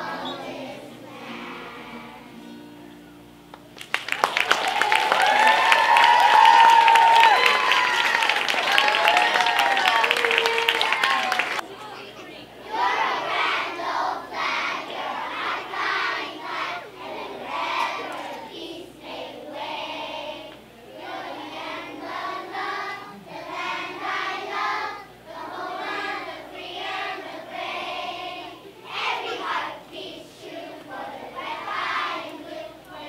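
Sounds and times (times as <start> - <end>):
children's choir singing: 0.0 - 2.7, 6.2 - 33.0.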